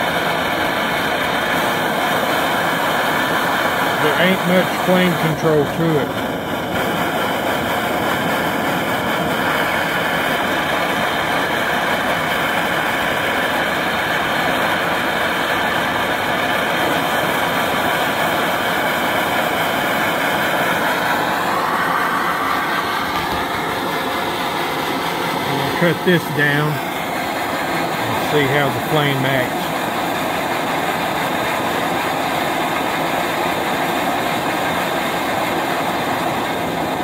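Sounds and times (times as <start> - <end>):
stove burner rushing hiss: 0.0 - 37.0.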